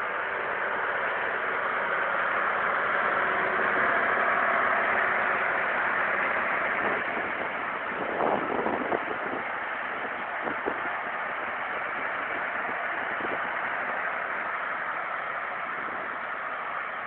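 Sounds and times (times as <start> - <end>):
tractor diesel engine passing: 0.0 - 17.0.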